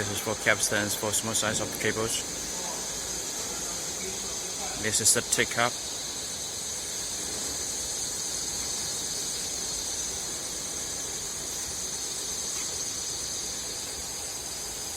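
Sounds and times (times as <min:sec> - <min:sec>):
machinery high-pitched hiss: 0:00.0 - 0:14.9.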